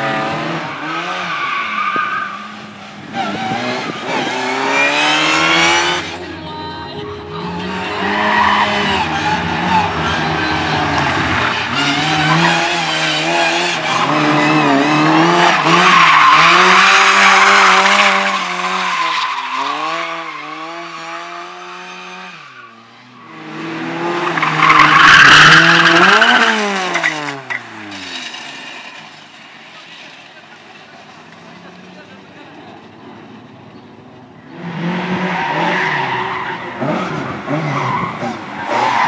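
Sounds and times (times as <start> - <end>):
race car engine revving: 0.0 - 6.2, 7.4 - 39.0
tyres squealing and skidding: 0.0 - 39.0.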